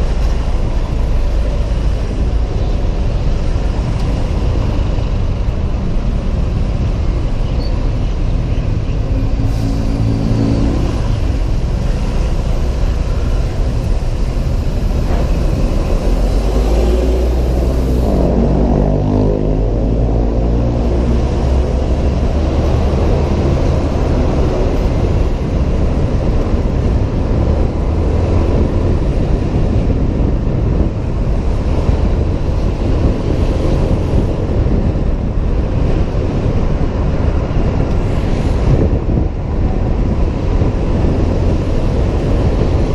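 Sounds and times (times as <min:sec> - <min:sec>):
road rumble: 0:00.0 - 0:42.9
wind rush: 0:00.0 - 0:42.9.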